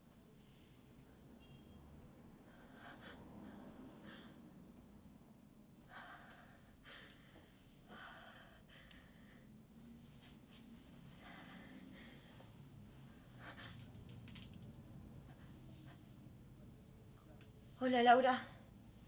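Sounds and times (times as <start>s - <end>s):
room hum: 0.0s - 19.0s.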